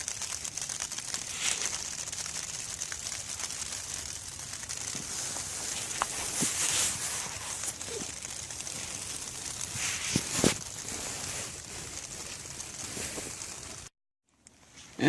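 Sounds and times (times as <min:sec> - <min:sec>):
rain pattering on plastic tarp: 0:00.0 - 0:15.0.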